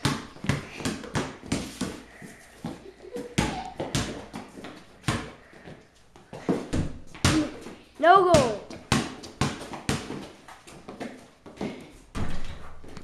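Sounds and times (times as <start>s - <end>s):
basketball bouncing on hard floor: 0.0s - 2.0s, 2.6s - 5.4s, 6.3s - 7.7s, 8.3s - 13.0s.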